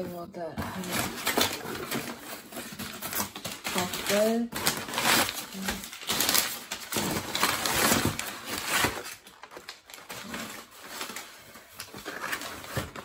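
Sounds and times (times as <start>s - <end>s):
packing paper rustling and crinkling: 0.0s - 13.0s.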